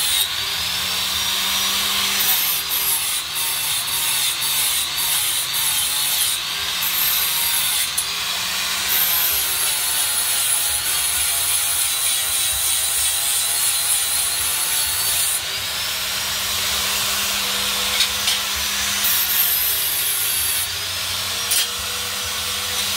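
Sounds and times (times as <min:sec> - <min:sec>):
angle grinder grinding steel: 0:00.0 - 0:22.9.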